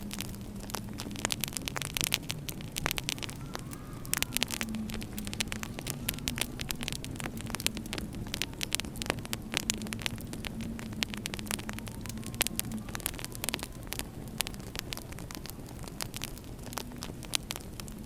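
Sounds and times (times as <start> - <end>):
low rumble: 0.0 - 18.0
wood fire crackling: 0.0 - 18.0.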